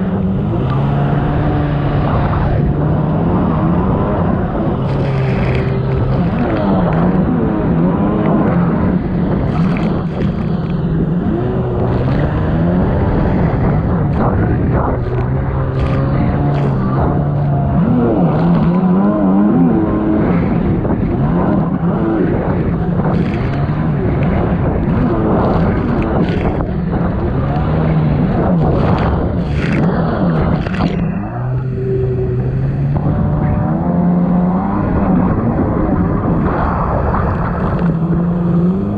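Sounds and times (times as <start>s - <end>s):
personal watercraft engine running: 0.0s - 38.9s
water rushing: 0.0s - 38.9s
wind: 0.0s - 38.9s.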